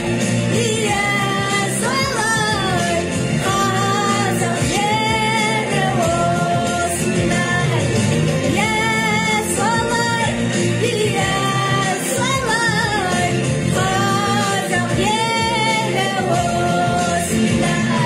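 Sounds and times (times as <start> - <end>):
instrumental backing track: 0.0 - 18.0.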